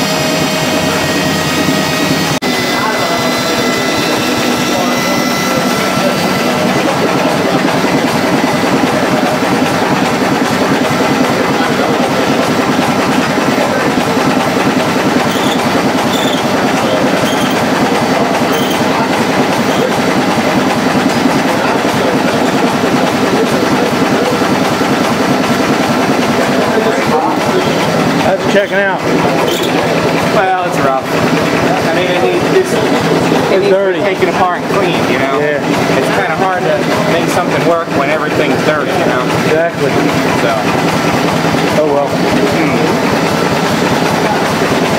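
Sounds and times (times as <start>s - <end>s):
engine driven generator clattering: 0.0s - 44.9s.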